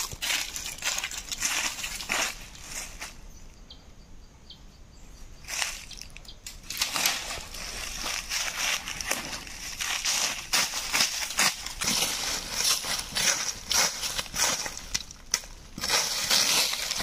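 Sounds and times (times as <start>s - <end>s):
footsteps crunching through dry leaves: 0.0s - 3.3s, 5.4s - 17.0s.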